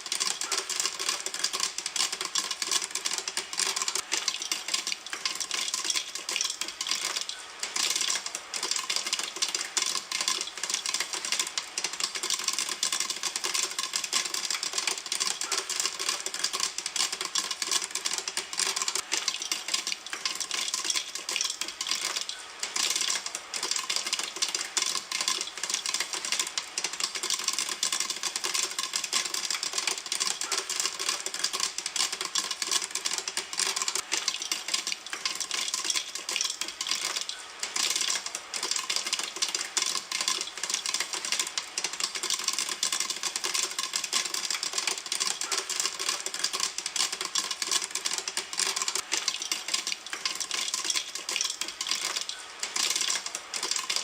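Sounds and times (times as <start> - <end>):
kernels rattling in pan: 0.0 - 54.0
popcorn popping: 0.0 - 54.0.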